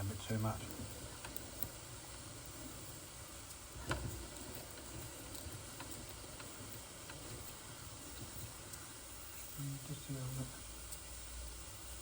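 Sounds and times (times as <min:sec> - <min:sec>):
faint steam hiss: 0:00.0 - 0:12.0
soft irregular clicks: 0:00.2 - 0:09.6, 0:10.3 - 0:12.0.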